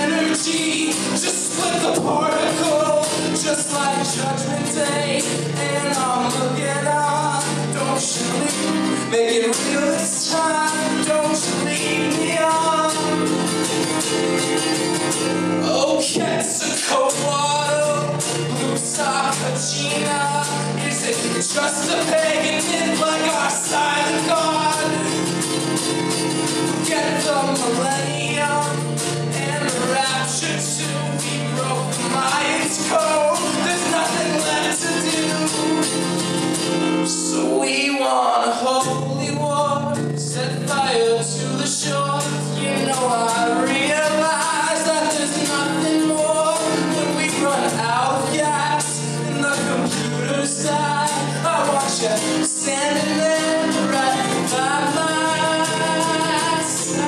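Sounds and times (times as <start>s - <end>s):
man singing folk song: 0.0s - 57.0s
strummed acoustic guitar: 0.0s - 57.0s.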